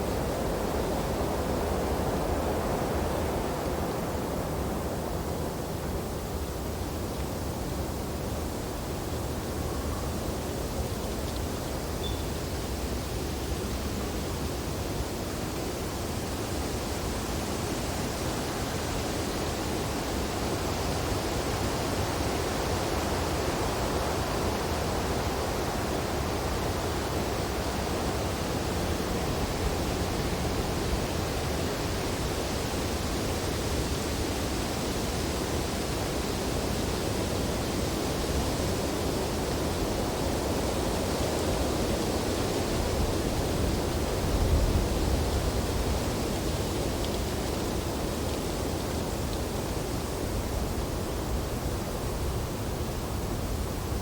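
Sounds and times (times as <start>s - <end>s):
wind through tree branches: 0.0s - 54.0s.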